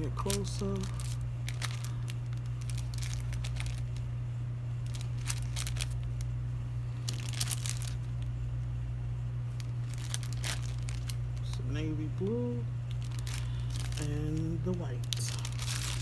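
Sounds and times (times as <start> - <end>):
plastic bags crinkling: 0.0 - 4.1, 4.8 - 6.3, 6.9 - 8.3, 9.5 - 16.0
steady low hum: 0.0 - 16.0.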